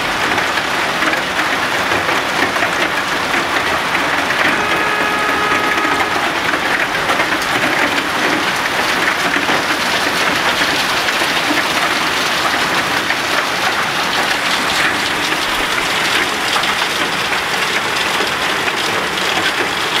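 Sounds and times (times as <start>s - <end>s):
hail and heavy rain pelting: 0.0s - 20.0s.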